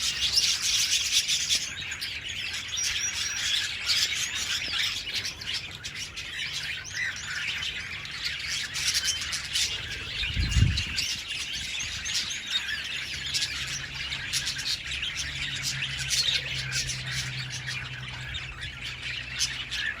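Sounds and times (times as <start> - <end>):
budgerigars chirping and squawking: 0.0 - 20.0.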